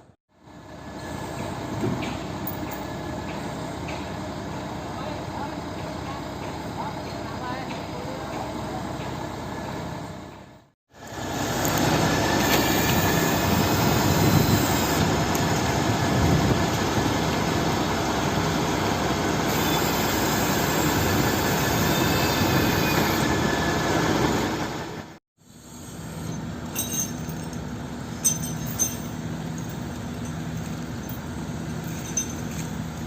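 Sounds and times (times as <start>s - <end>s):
heavy truck engine running: 0.4s - 33.0s.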